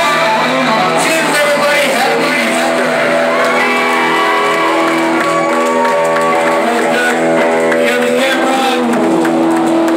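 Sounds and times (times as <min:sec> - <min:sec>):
hard rock band with electric guitars: 0:00.0 - 0:09.9.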